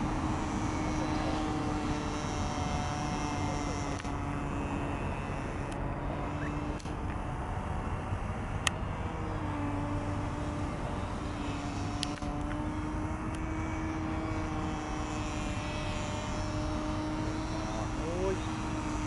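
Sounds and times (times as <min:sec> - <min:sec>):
model airplane engine running: 0:00.0 - 0:19.0.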